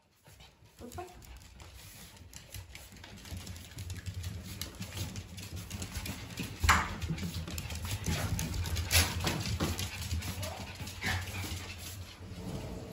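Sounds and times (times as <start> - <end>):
dog claws clicking on wooden floor: 0.9 - 11.7.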